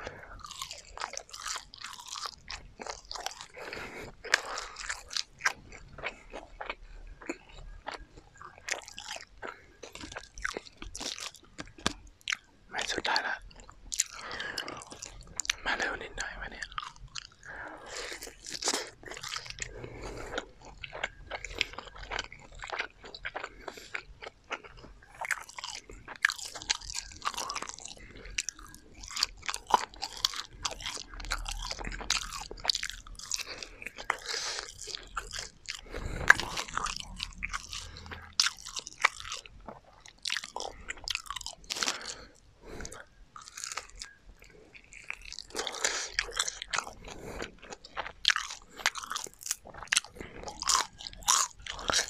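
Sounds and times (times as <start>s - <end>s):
crunchy chewing of fried chicken: 0.0s - 52.0s.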